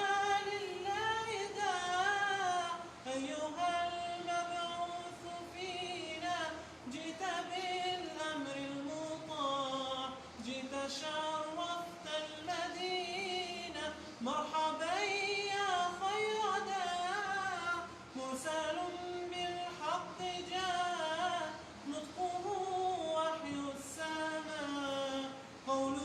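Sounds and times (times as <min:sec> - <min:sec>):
person singing a cappella: 0:00.0 - 0:26.0.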